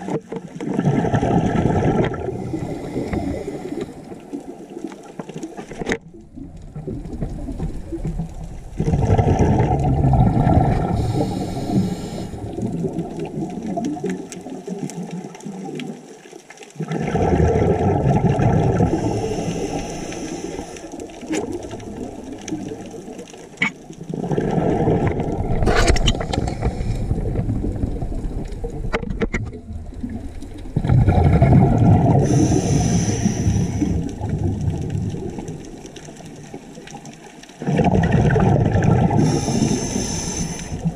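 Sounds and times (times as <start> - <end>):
rushing water: 0.0 - 40.9
underwater bubbling: 0.0 - 40.9.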